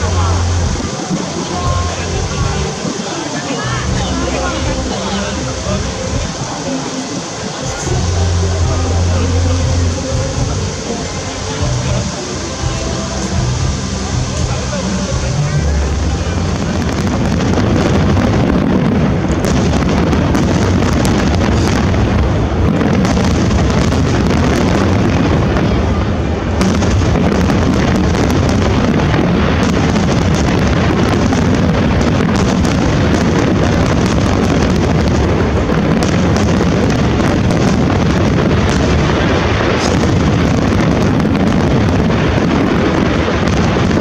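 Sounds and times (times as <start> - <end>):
fireworks booming and crackling: 0.0 - 44.0.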